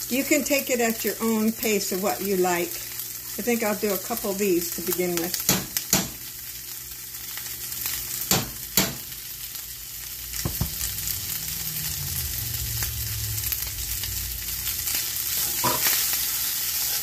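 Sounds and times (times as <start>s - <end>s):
food sizzling in a skillet: 0.0s - 17.0s.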